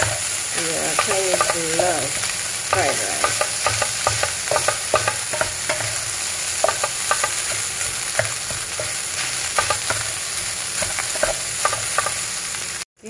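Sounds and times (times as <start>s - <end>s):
spatula scraping and tapping pan: 0.0s - 12.3s
food sizzling in frying pan: 0.0s - 12.9s.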